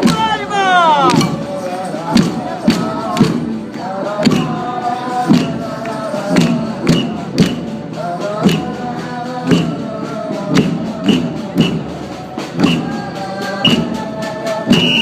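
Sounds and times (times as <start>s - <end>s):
heavy drum beat: 0.0s - 15.0s.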